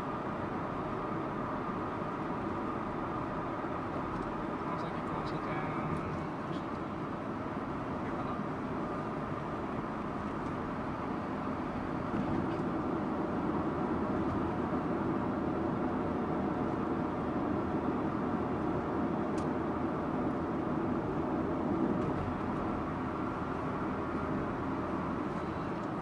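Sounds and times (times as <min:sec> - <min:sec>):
car engine and tyre noise: 0:00.0 - 0:26.0.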